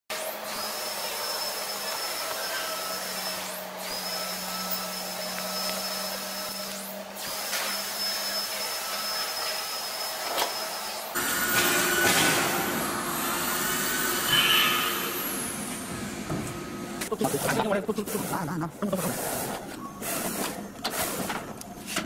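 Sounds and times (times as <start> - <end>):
motor whirring and humming: 0.2 - 22.0.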